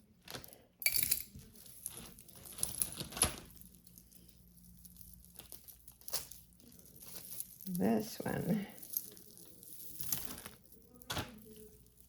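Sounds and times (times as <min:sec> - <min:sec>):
beads and chain clicking: 0:00.3 - 0:12.0
plastic bag crinkling: 0:01.3 - 0:12.0.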